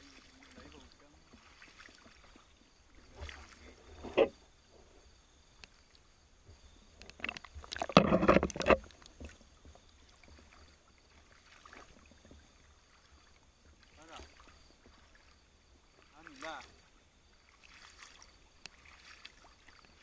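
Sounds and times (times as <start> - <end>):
water splashing and bubbling: 0.0 - 4.4, 5.6 - 20.0
crackling splashes: 0.0 - 4.5, 5.1 - 20.0.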